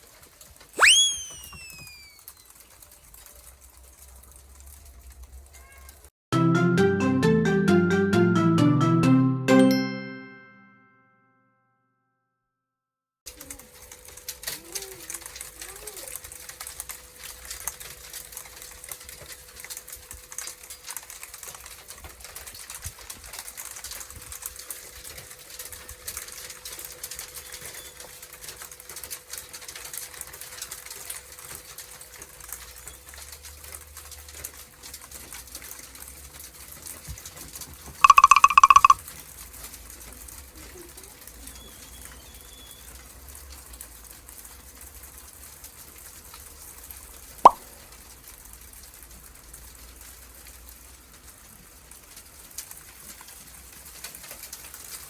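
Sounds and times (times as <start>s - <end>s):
hail pattering on a balcony: 0.0s - 0.8s, 1.9s - 6.1s, 13.3s - 38.0s, 39.0s - 55.0s.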